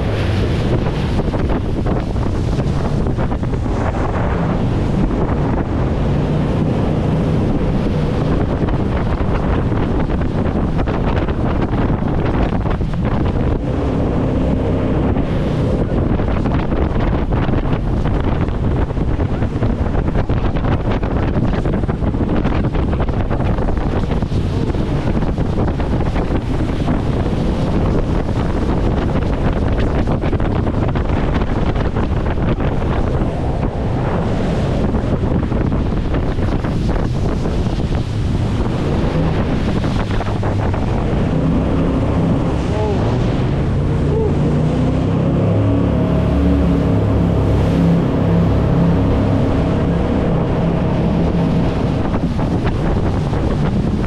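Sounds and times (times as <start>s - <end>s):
boat engine: 0.0s - 54.0s
river water rushing: 0.0s - 54.0s
wind buffeting microphone: 0.0s - 54.0s.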